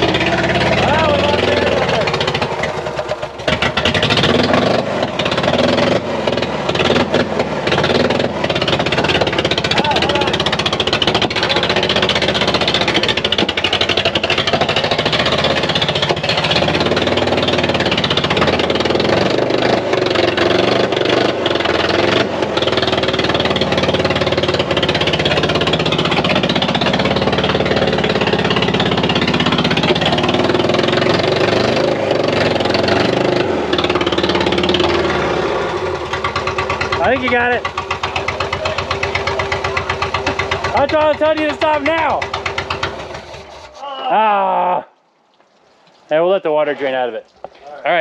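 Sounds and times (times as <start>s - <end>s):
pickup engine running rough: 0.0s - 43.8s.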